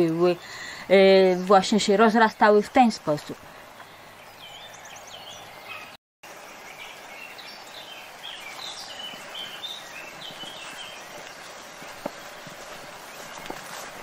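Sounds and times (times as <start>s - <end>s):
small birds chirping: 0.0s - 14.0s
steady outdoor hiss: 0.0s - 14.0s.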